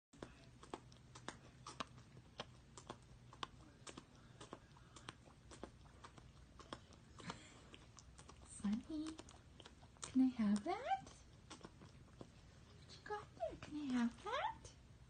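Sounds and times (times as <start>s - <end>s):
dog chewing rubber toy: 0.2s - 14.3s.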